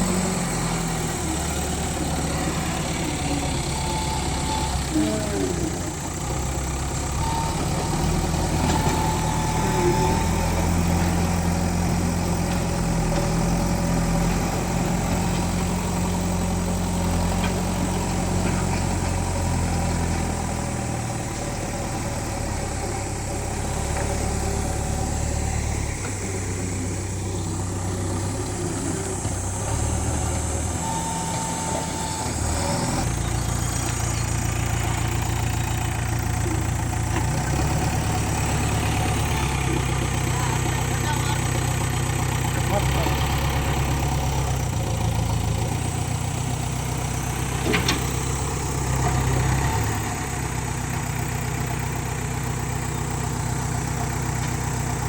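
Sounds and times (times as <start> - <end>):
large diesel engine running: 0.0 - 55.0.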